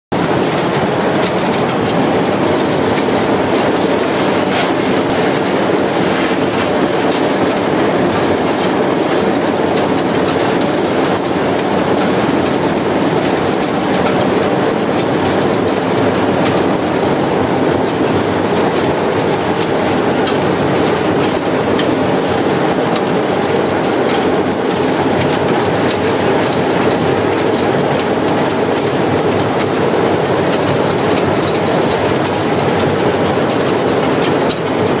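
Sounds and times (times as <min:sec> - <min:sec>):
industrial vacuum cleaner running: 0:00.2 - 0:29.5.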